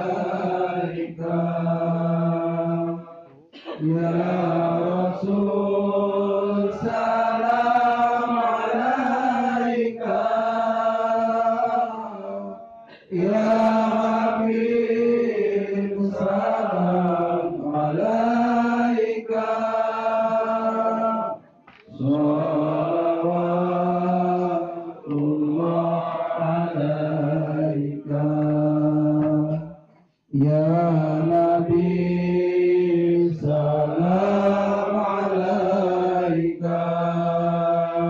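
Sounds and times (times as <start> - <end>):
male voices chanting: 0.0 - 38.0.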